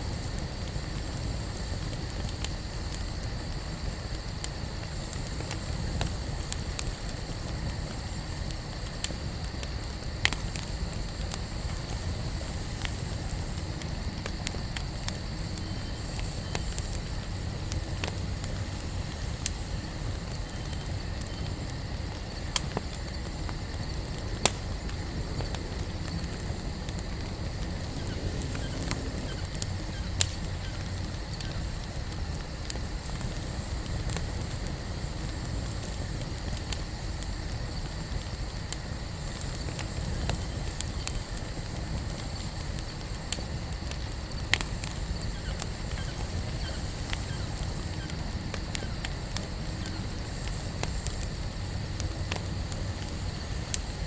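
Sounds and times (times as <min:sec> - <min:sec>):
campfire low rumble: 0:00.0 - 0:54.0
wood crackling and popping: 0:00.1 - 0:54.0.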